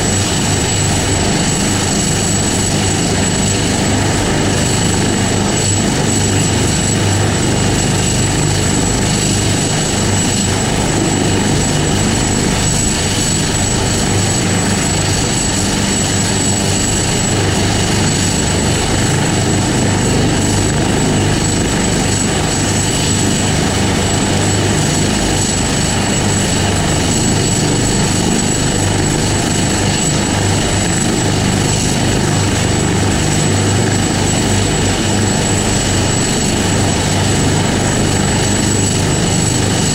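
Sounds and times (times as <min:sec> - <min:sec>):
helicopter rotor noise: 0:00.0 - 0:39.9.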